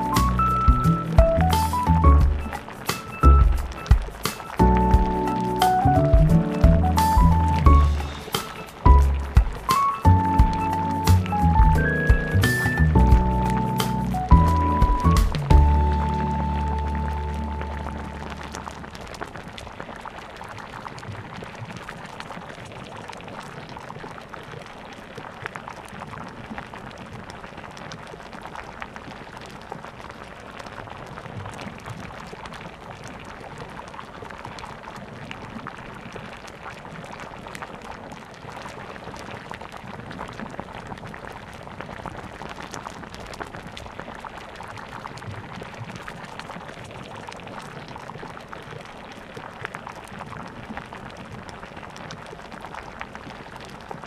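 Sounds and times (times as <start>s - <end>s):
small crackles and pops: 0.0s - 54.0s
coconut cream bubbling in a pan: 2.1s - 54.0s.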